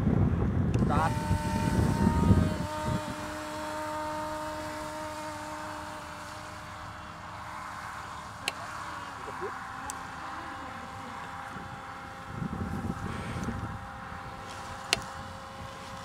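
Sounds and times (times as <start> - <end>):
electric motor whine: 0.0 - 16.0
wind buffeting microphone: 0.0 - 16.0.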